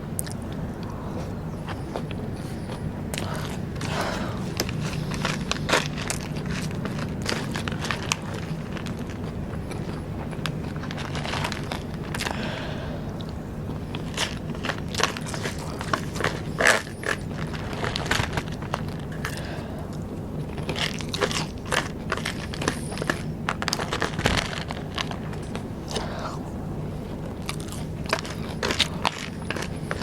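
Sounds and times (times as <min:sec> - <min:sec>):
crunchy snack chewing: 0:00.1 - 0:30.0.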